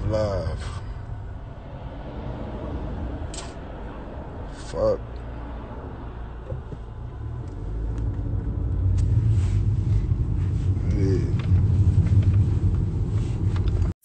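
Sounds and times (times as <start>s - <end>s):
low uneven rumble: 0.0s - 13.9s.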